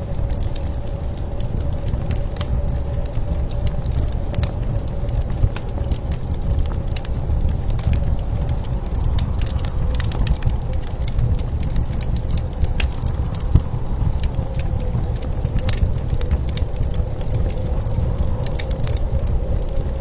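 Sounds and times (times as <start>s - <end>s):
blizzard wind rumbling: 0.0s - 20.0s
fire crackling and popping: 0.0s - 20.0s.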